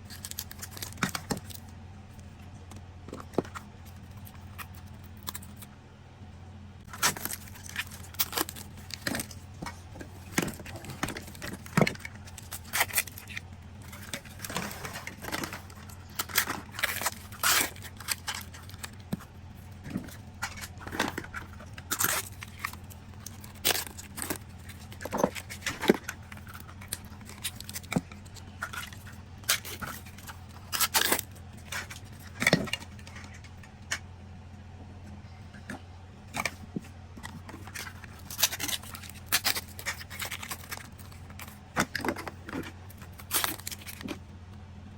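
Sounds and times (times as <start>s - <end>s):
plastic packaging crinkling: 0.0s - 1.7s, 6.9s - 34.0s, 36.4s - 44.2s
steady low hum: 0.0s - 44.9s.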